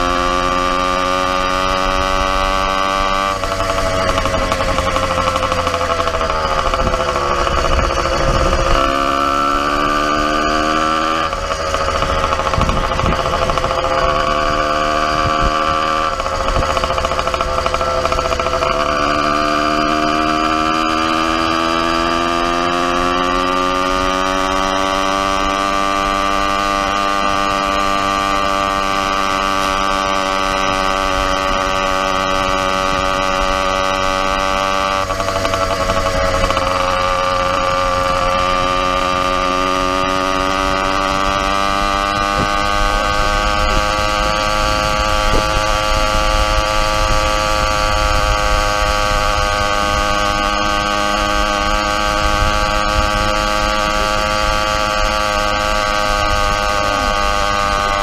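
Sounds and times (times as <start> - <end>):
motorized bicycle engine drone: 0.0 - 58.0.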